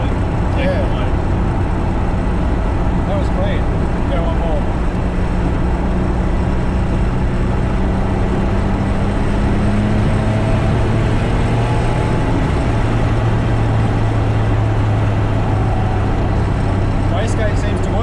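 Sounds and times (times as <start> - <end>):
car engine running while driving: 0.0 - 18.0.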